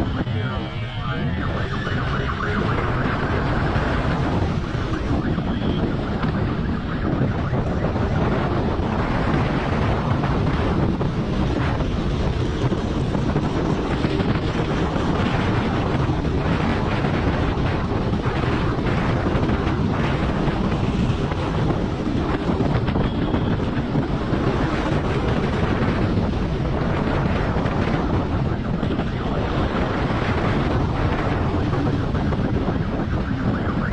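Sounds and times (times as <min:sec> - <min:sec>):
road noise: 0:00.0 - 0:33.9
wind rushing over microphone: 0:00.0 - 0:33.9.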